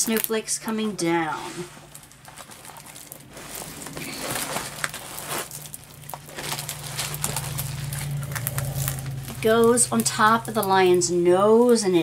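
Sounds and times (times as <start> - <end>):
low steady hum: 0.0 - 12.0
plastic film crinkling: 0.0 - 12.0.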